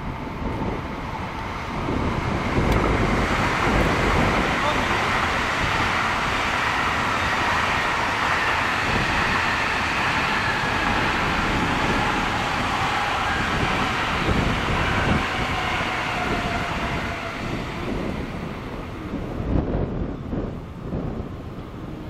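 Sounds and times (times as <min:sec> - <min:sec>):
train wheels rumbling on rails: 0:00.0 - 0:22.0
train motor whine: 0:00.4 - 0:19.8.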